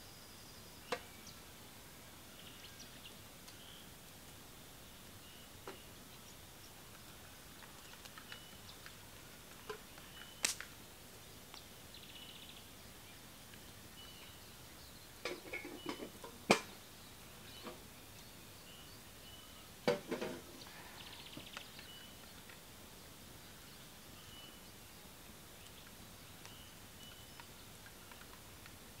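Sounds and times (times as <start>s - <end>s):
faint bird chirps: 4.8s - 19.8s, 20.4s - 29.0s.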